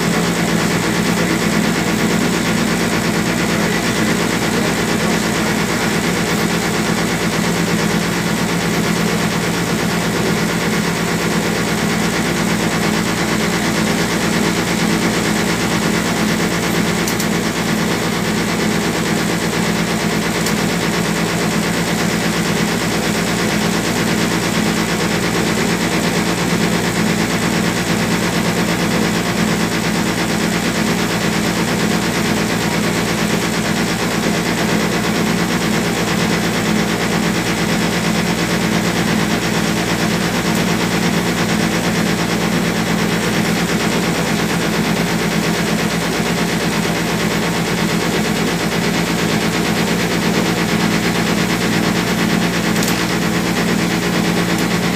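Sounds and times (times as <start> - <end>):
ferry engine droning: 0.0 - 54.9.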